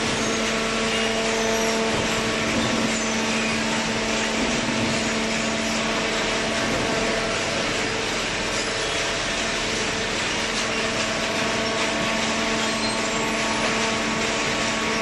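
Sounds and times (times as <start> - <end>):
motor and pump hum: 0.0 - 15.0.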